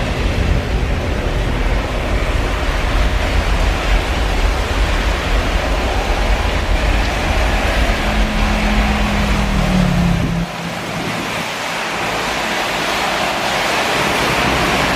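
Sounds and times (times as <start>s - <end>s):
jet engines roaring: 0.0s - 14.9s
wind buffeting microphone: 0.0s - 14.9s.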